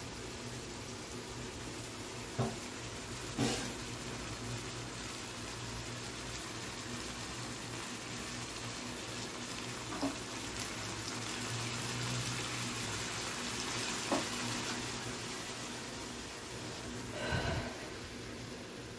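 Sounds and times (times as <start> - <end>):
gas stove hiss and hum: 0.0 - 18.9.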